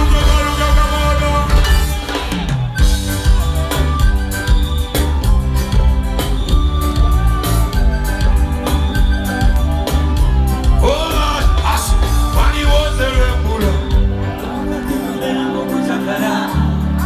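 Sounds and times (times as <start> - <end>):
drum kit beat: 0.0 - 14.6
heavy bass line: 0.0 - 17.0
held melodic lines: 0.0 - 17.0.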